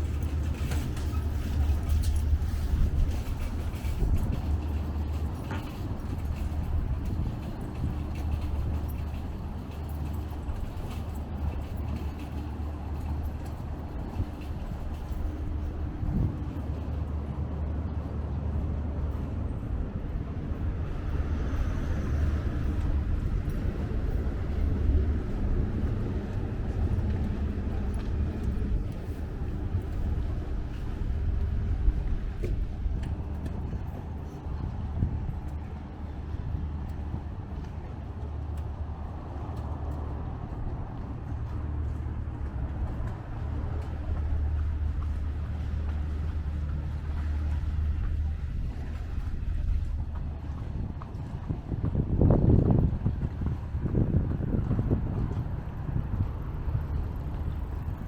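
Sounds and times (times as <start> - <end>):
city street noise: 0.0 - 58.0
low rumble of traffic: 0.0 - 58.0
wind: 0.0 - 58.0.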